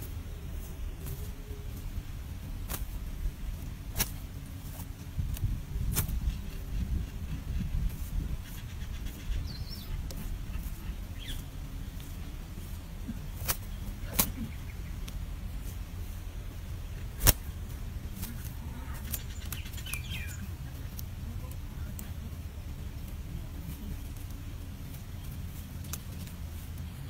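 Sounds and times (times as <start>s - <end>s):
steady low rumble: 0.0s - 27.0s
nestlings begging peeps: 3.9s - 26.4s.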